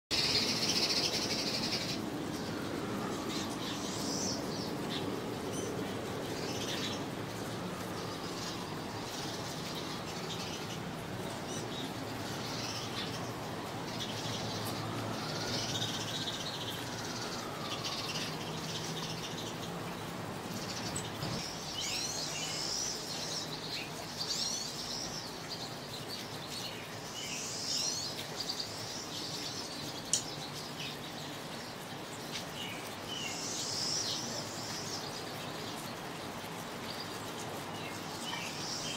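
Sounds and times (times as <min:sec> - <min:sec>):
small songbirds chirping: 0:00.1 - 0:38.9.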